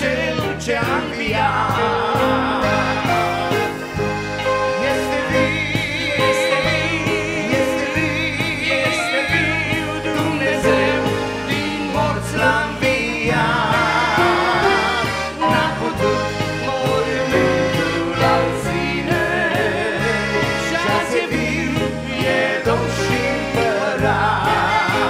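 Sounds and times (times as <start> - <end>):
man singing with vibrato: 0.0 - 25.0
piano accordion: 0.0 - 25.0.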